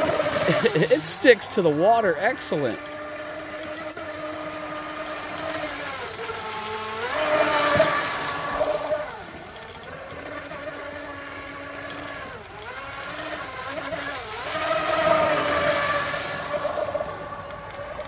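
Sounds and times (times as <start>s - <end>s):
model boat motor whining: 0.0s - 18.0s.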